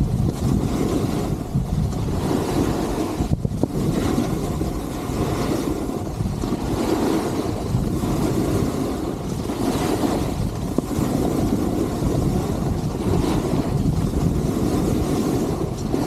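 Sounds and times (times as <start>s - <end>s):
skis sliding on snow: 0.0s - 16.0s
wind on microphone: 0.0s - 16.0s.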